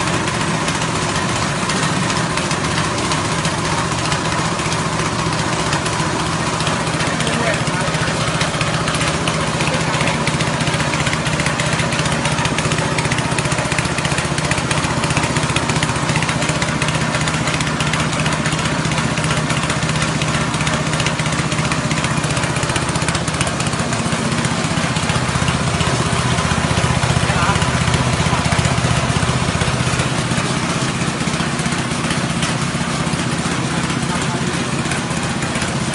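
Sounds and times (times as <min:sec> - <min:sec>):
engine drone: 0:00.0 - 0:35.9
grinding mill rushing noise: 0:00.0 - 0:35.9.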